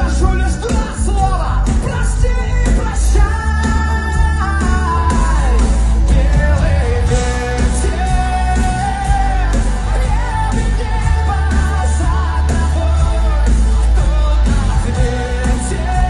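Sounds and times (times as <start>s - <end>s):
heavy bass: 0.0s - 16.0s
pop song with sung melody: 0.0s - 16.0s.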